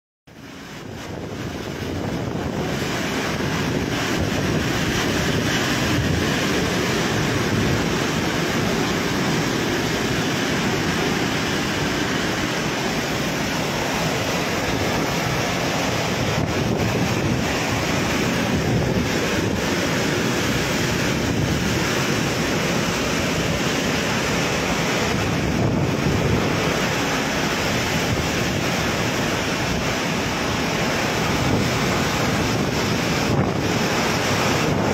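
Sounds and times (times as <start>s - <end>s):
strong wind: 0.3s - 34.9s
torrential rain: 0.3s - 34.9s
wind buffeting microphone: 0.6s - 34.9s.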